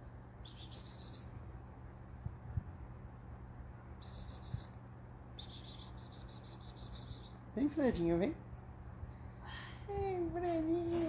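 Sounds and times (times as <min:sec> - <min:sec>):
steady low hum: 0:00.0 - 0:11.0
insect trilling: 0:00.2 - 0:10.4.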